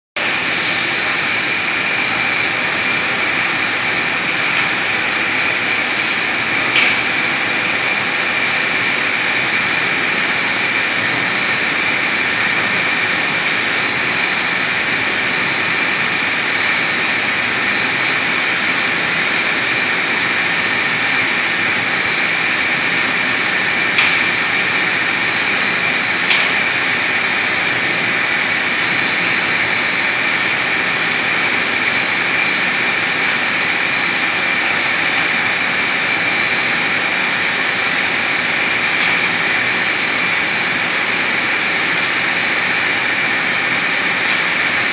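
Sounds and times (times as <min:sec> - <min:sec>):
high-pitched whine: 0:00.2 - 0:44.9
spray painting system hissing: 0:00.2 - 0:44.9.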